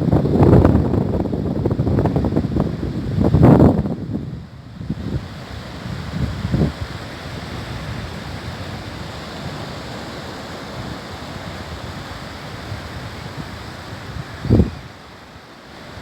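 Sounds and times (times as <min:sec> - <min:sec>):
surf washing onto beach: 0:00.0 - 0:16.0
wind on microphone: 0:00.0 - 0:16.0.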